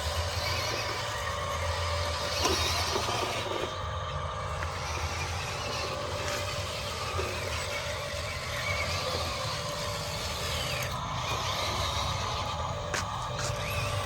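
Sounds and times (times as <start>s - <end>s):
mechanical running hum: 0.0s - 14.0s
small motor whines: 0.0s - 14.0s.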